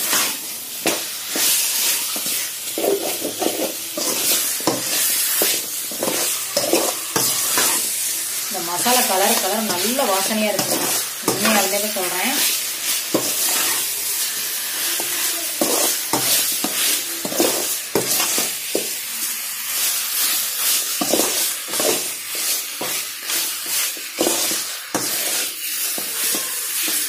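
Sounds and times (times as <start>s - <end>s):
chicken sizzling in metal pot: 0.0s - 27.0s.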